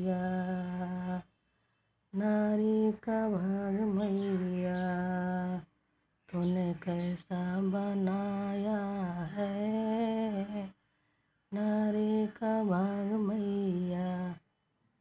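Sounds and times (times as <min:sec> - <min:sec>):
woman singing unaccompanied: 0:00.0 - 0:01.4, 0:02.1 - 0:05.7, 0:06.3 - 0:10.8, 0:11.5 - 0:14.5.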